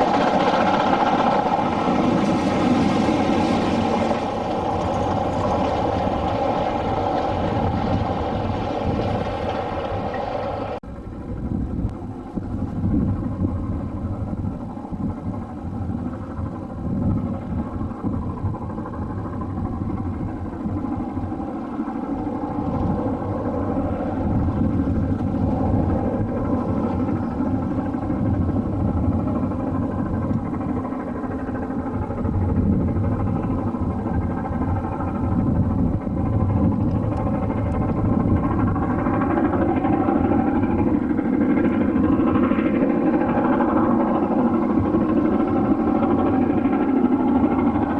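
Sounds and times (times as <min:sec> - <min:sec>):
steam locomotive running: 0:00.0 - 0:47.9
train rumbling: 0:00.0 - 0:47.9.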